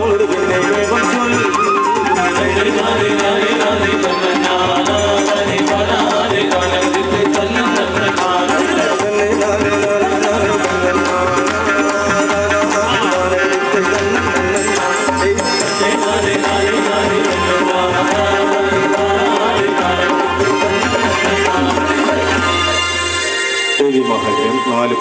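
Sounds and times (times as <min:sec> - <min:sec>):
drums keeping a beat: 0:00.0 - 0:23.7
sustained melody: 0:00.0 - 0:25.0.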